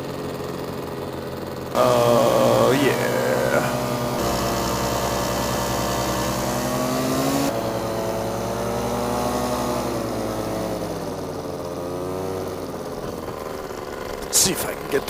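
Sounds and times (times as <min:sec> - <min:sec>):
paramotor engine running: 0:00.0 - 0:15.0.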